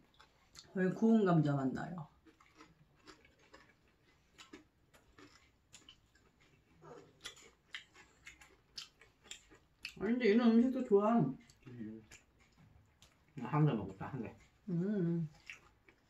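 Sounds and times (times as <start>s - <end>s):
chewing: 0.0s - 0.8s, 1.9s - 10.7s, 11.3s - 16.0s.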